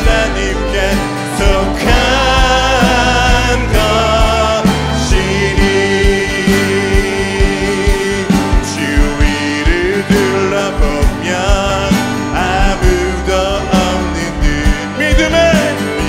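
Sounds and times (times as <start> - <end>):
drum beat: 0.0 - 16.0
electric guitar: 0.0 - 16.0
live band playing: 0.0 - 16.0
person singing: 0.0 - 16.0.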